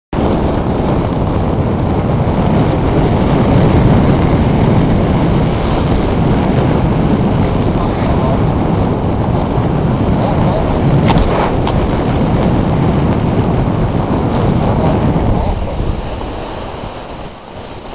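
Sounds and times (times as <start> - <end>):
wind roaring on microphone: 0.1 - 17.9.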